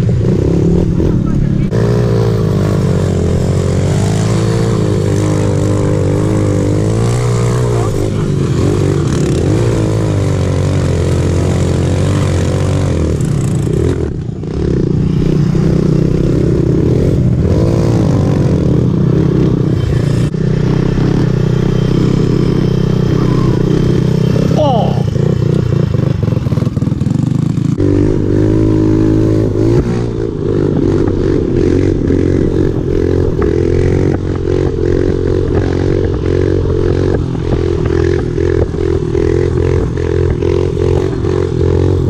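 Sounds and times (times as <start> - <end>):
small off-road engines running: 0.0 - 42.0.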